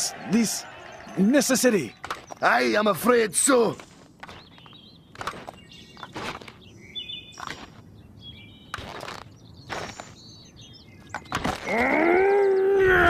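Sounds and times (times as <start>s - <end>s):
bird chirps: 0.2s - 13.0s.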